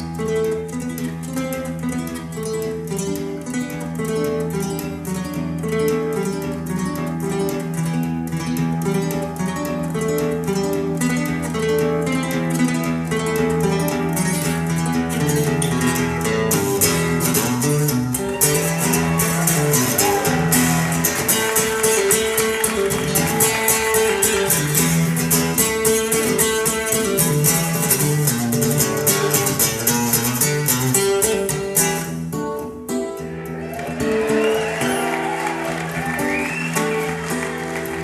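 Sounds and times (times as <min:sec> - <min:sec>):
acoustic guitar picking and strumming: 0:00.0 - 0:38.0.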